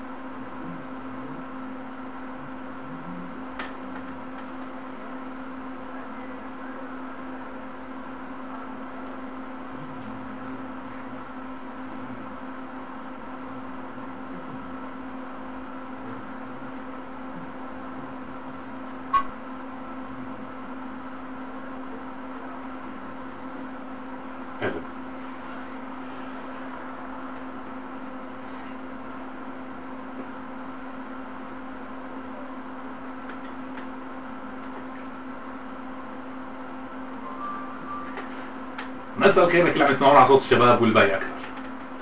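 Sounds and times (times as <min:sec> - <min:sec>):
steady low room hum: 0:00.0 - 0:42.0.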